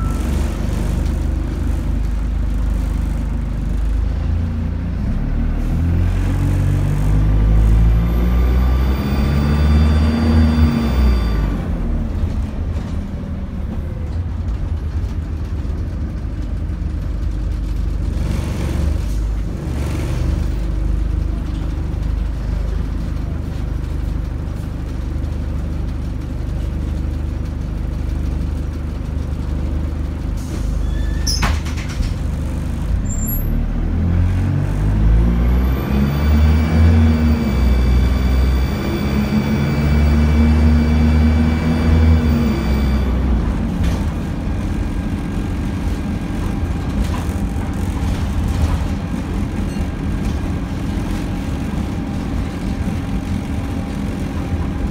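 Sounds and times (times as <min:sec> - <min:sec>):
bus engine drone: 0:00.0 - 0:54.9.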